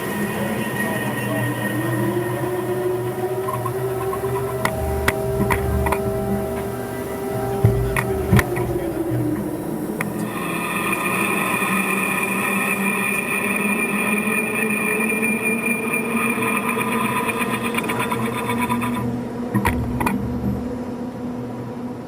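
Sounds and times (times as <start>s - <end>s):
machine motor whining hum: 0.0s - 22.0s.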